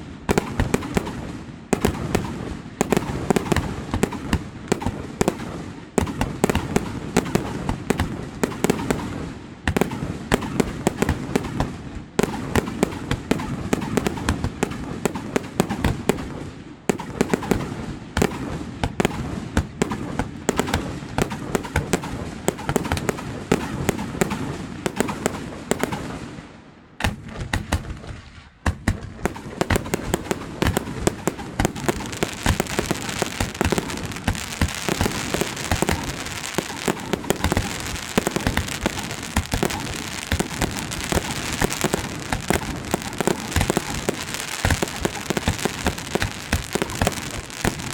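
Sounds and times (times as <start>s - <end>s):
fireworks bangs and pops: 0.0s - 47.9s
fireworks crackling: 0.0s - 47.9s.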